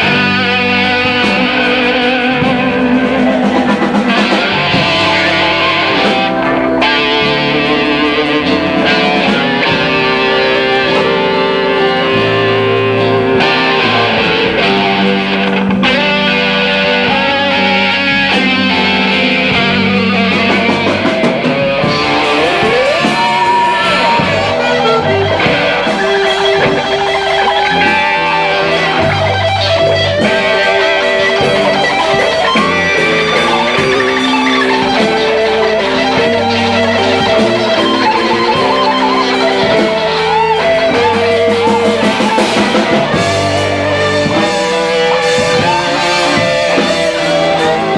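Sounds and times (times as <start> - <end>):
blues band playing live: 0.0 - 47.9
electric guitar bending notes: 0.0 - 47.9.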